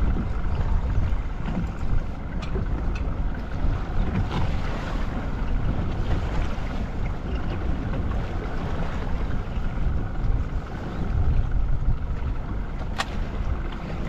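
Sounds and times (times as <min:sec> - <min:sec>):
water noise: 0:00.0 - 0:14.0
wind buffeting microphone: 0:00.0 - 0:14.0.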